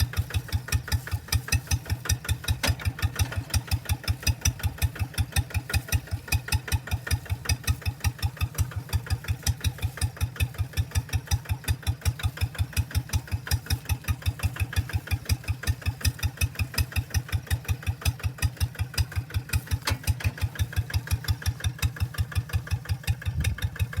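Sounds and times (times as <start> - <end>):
hand tractor engine idling: 0.0 - 24.0.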